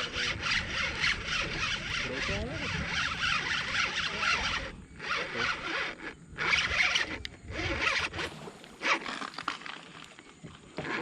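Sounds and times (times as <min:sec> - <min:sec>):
fishing reel zipping: 0:00.0 - 0:11.0.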